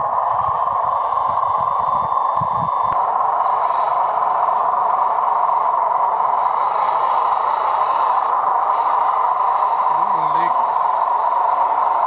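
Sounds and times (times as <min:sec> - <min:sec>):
model truck electric motor running: 0:00.0 - 0:12.0.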